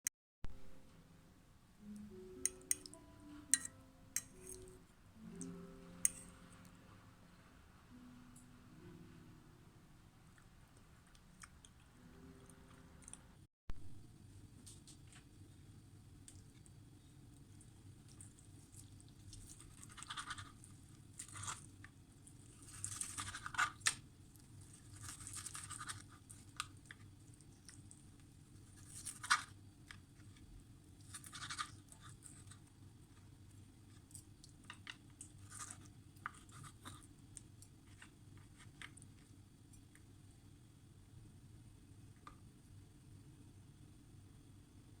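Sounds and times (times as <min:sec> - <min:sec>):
faint low hum: 0:00.4 - 0:45.0.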